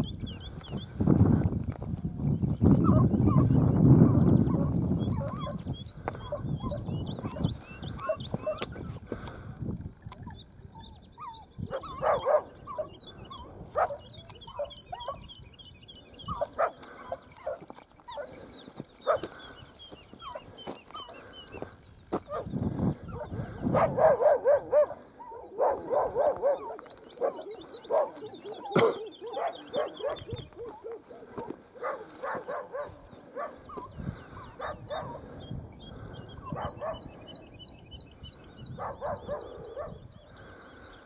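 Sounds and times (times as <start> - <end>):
dogs barking and yelping: 2.6 - 9.0, 10.1 - 41.0.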